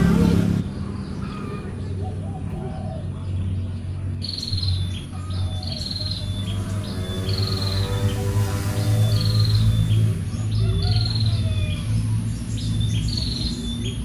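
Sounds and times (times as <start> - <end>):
small bird chirping: 1.0 - 14.0.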